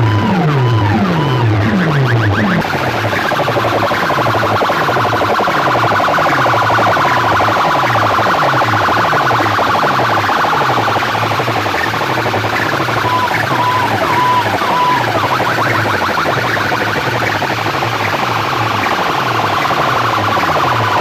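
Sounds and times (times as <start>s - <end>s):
siren-like electronic effect: 0.0s - 21.0s.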